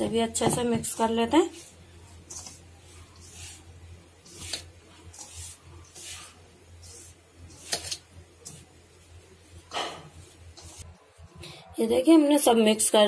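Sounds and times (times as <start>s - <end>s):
hand stirring dry flour in bowl: 0.0s - 11.0s.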